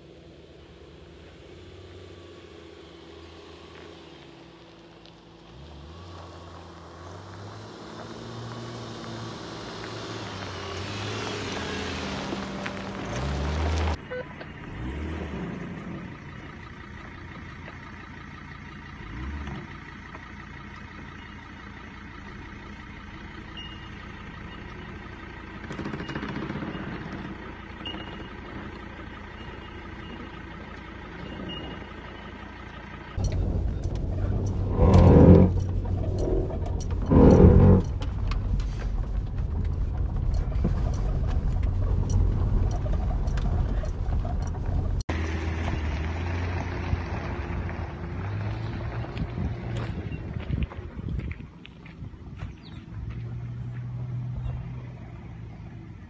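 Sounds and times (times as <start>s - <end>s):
car engine driving on dirt: 0.0s - 56.0s.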